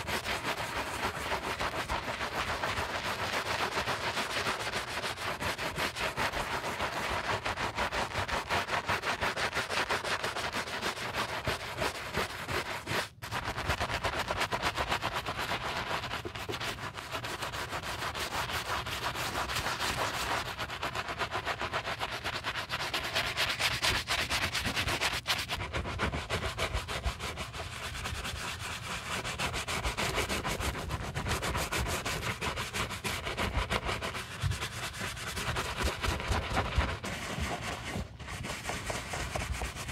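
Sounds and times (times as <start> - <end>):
brush scrubbing sneaker: 0.0 - 39.9.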